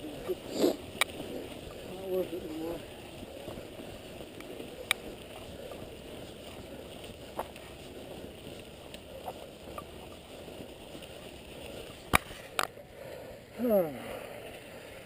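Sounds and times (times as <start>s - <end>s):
bike clicks and rattles: 0.0s - 13.2s
tyres rumbling on dirt: 0.0s - 14.9s
wind: 0.0s - 15.0s.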